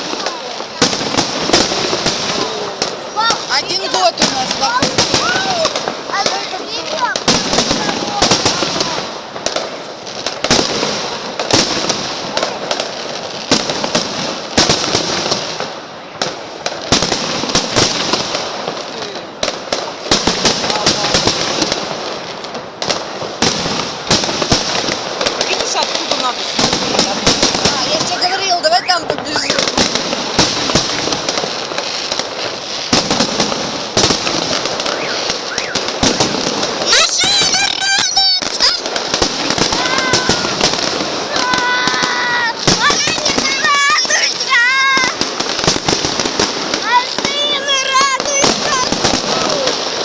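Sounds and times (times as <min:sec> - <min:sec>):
firework bangs: 0:00.0 - 0:50.0
fireworks crackling: 0:00.0 - 0:50.0.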